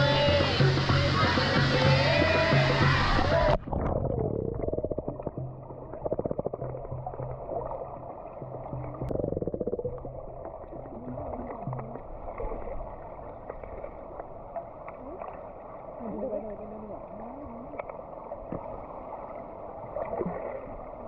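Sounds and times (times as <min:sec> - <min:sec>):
low underwater rumbling: 0:00.0 - 0:21.0
water bubbling: 0:00.0 - 0:21.0.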